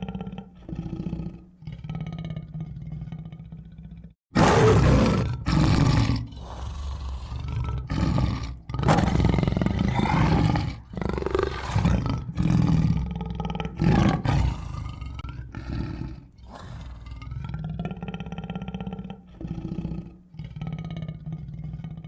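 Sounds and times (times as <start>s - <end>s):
tiger roaring: 0.0s - 22.0s.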